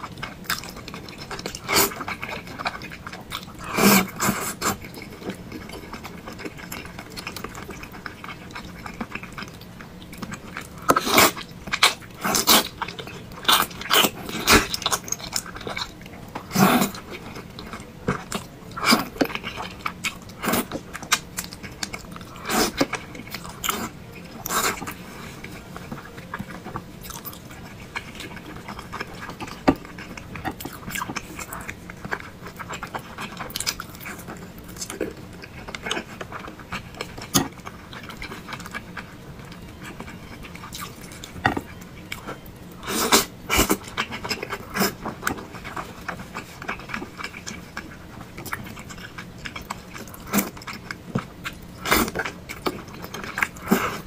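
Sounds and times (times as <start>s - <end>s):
faint steady hum: 0.0s - 54.0s
person chewing food: 0.0s - 54.0s.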